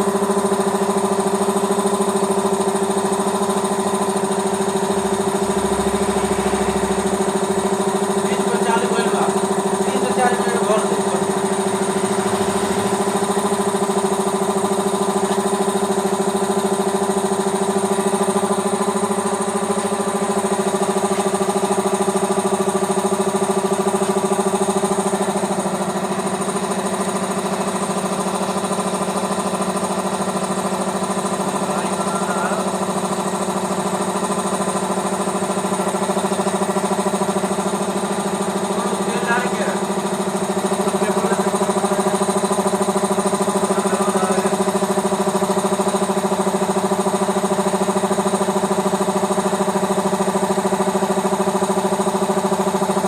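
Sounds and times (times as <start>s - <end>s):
air compressor running: 0.0s - 53.0s.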